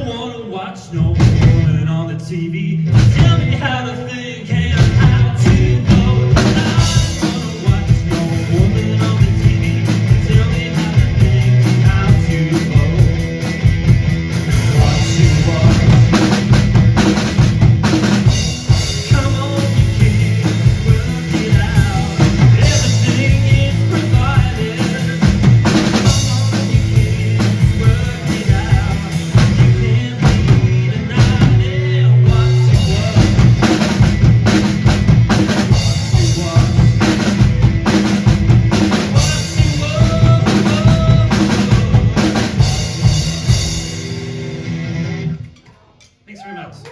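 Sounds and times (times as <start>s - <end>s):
drum kit played hard: 1.1s - 1.8s, 2.8s - 3.9s, 4.5s - 45.4s
electric guitar: 2.8s - 45.6s.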